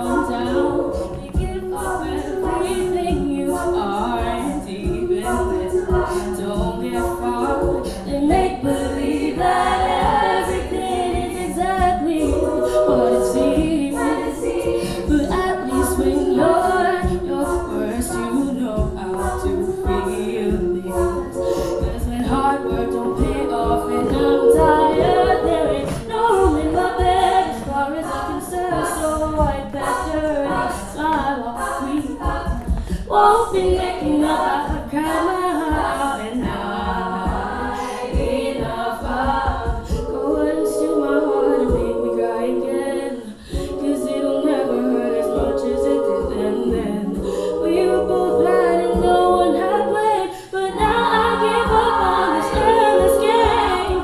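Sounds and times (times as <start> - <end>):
vocal group singing in harmony: 0.0 - 54.0
vocal percussion beat: 0.0 - 54.0.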